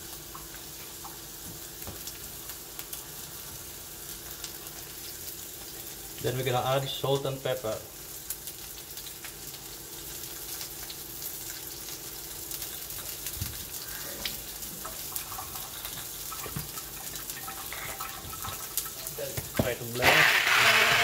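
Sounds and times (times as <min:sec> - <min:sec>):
chicken sizzling in frying pan: 0:00.0 - 0:21.0.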